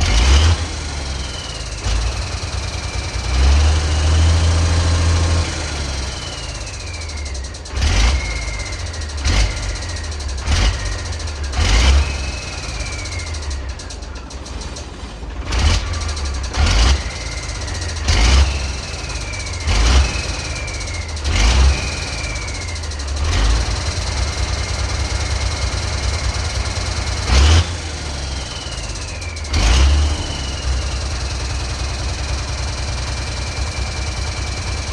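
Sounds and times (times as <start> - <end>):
sharp engine bursts: 0.0 - 34.9
truck engine running: 0.0 - 34.9.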